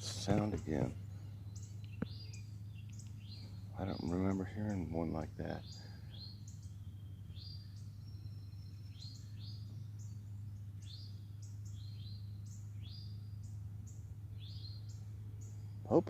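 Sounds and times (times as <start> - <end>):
songbirds chirping: 0.0 - 16.0
steady low hum: 0.0 - 16.0.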